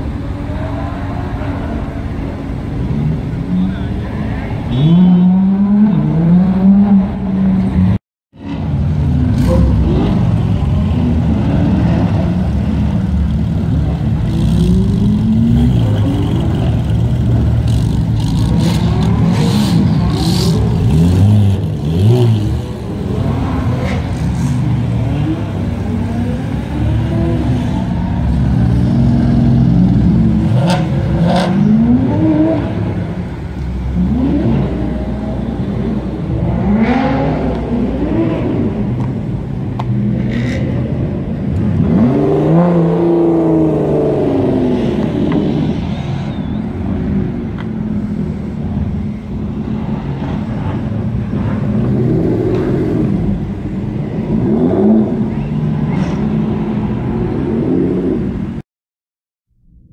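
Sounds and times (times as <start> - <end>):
sports car engines revving: 0.0 - 58.6.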